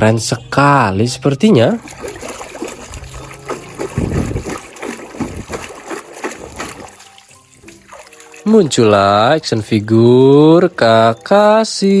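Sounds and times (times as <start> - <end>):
water splashing and sloshing: 1.4 - 11.1.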